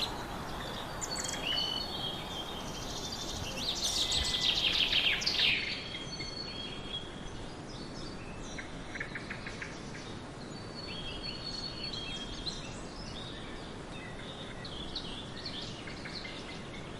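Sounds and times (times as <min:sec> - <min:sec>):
small birds chirping: 0:00.0 - 0:16.9
steady background hiss: 0:00.0 - 0:16.9.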